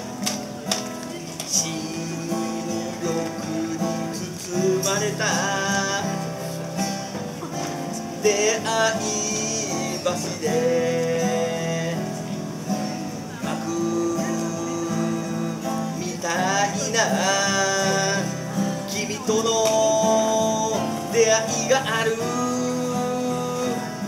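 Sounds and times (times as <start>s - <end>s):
acoustic guitar chords: 0.0s - 24.0s
man singing: 0.0s - 24.0s.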